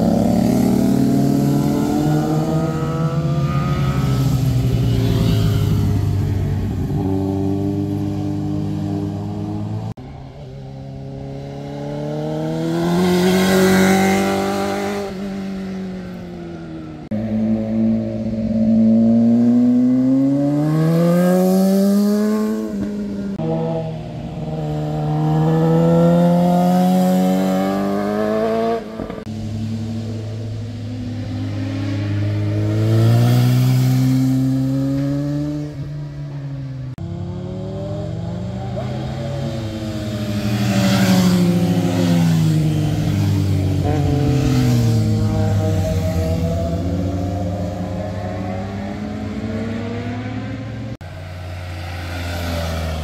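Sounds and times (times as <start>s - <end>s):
motorcycles passing: 0.0s - 53.0s.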